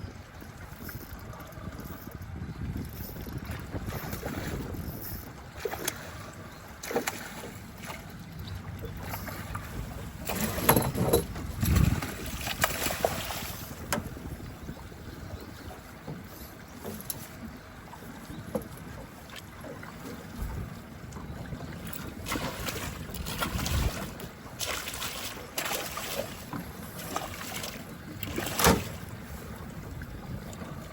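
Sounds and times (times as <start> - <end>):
water noise: 0.0 - 30.9
wind: 0.0 - 30.9.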